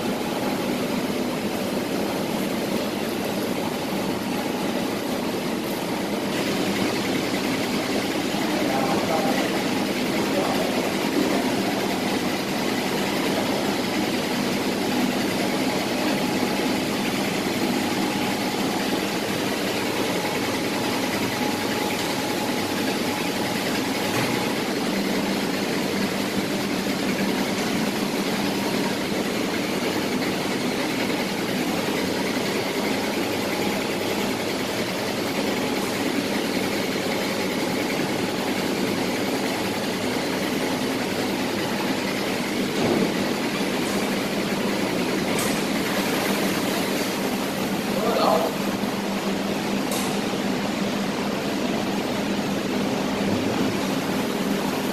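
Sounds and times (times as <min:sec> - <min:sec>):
fryer stirrer motor running: 0:00.0 - 0:54.9.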